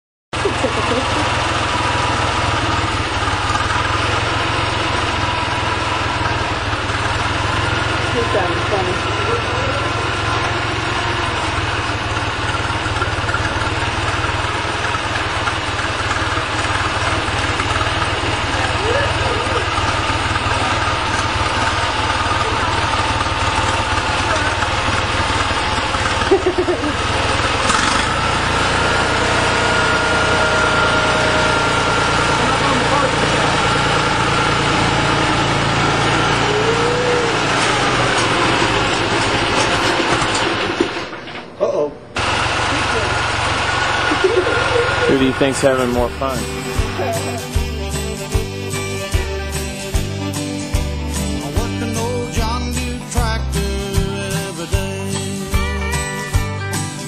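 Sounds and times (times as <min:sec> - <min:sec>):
tractor engine idling: 0:00.3 - 0:57.0
steady whine: 0:00.5 - 0:57.0.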